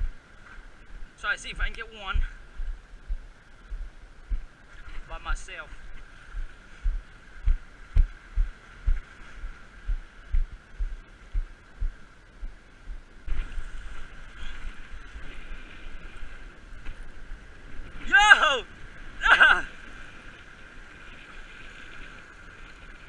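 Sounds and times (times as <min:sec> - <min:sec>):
wind and surf rushing: 0:00.0 - 0:23.0.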